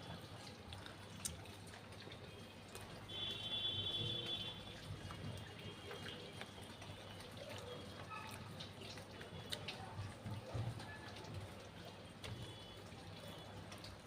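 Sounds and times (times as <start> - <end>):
wet chewing: 0.0 - 3.1, 4.3 - 13.0.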